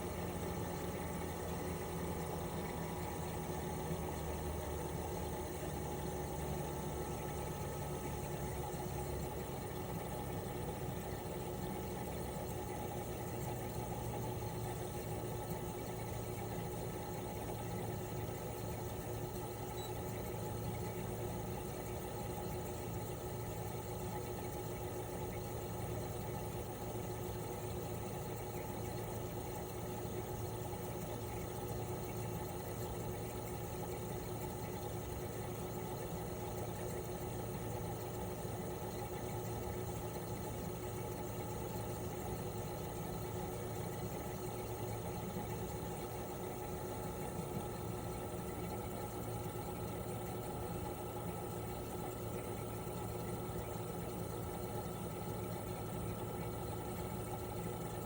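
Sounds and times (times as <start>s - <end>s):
air conditioner compressor hum: 0.0s - 58.0s.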